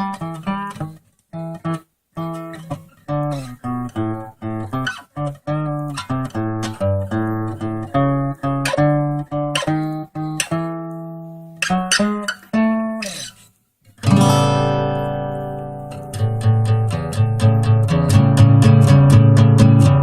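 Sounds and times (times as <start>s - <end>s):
slow blues guitar phrases: 0.0s - 20.0s
guitar chord ringing: 2.2s - 13.2s, 14.0s - 20.0s.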